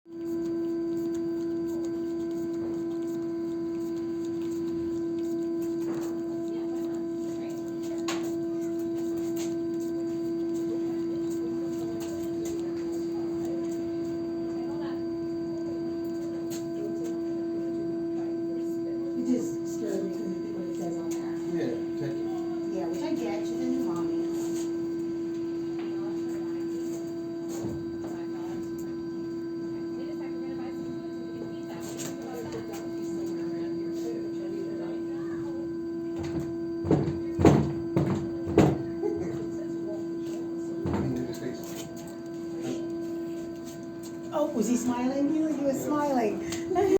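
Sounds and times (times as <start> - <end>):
steady pitched hum: 0.1 - 46.9.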